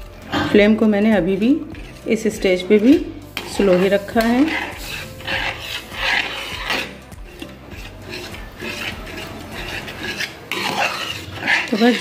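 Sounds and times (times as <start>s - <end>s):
spatula scraping metal pan: 0.0s - 12.0s.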